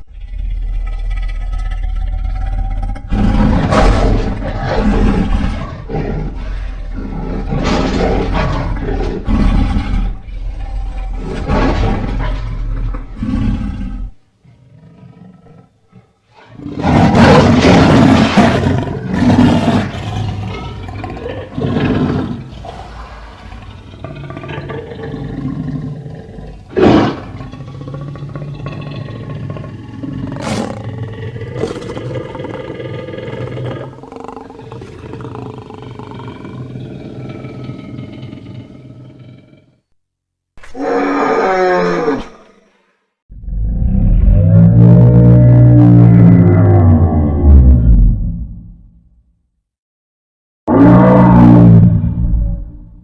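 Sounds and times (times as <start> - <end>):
monster roar: 0.7 - 14.1, 16.6 - 39.7, 40.6 - 42.7, 43.3 - 48.6, 50.7 - 53.0.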